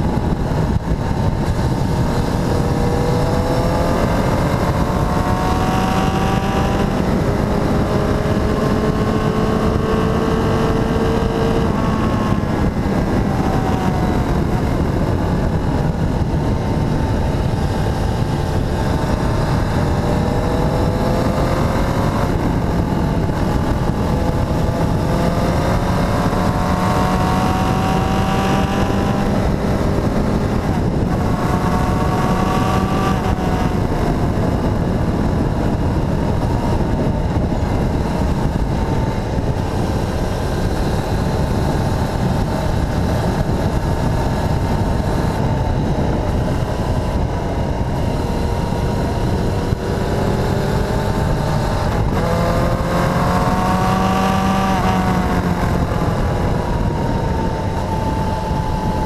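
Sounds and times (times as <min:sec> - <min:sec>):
motorcycle engine: 0:00.0 - 0:59.0
wind noise on microphone: 0:00.0 - 0:59.0.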